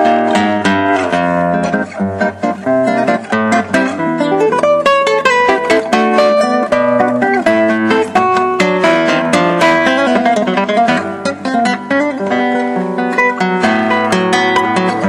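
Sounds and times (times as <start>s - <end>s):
classical guitar fingerpicking: 0.0s - 15.0s.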